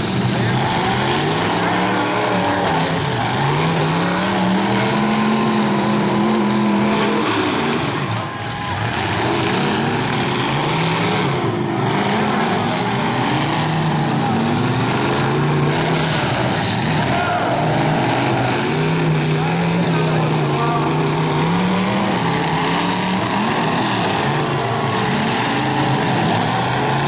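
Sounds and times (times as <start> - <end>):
car engines revving: 0.0 - 27.0
continuous din: 0.0 - 27.0.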